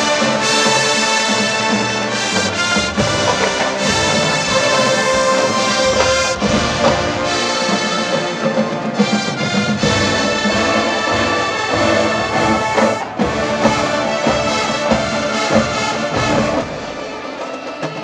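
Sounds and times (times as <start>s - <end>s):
brass chords: 0.0s - 17.6s
drumline strikes: 0.0s - 18.0s.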